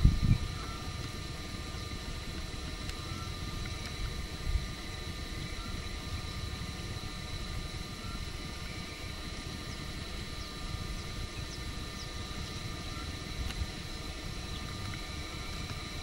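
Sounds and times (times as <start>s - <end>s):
whining tones: 0.0s - 16.0s.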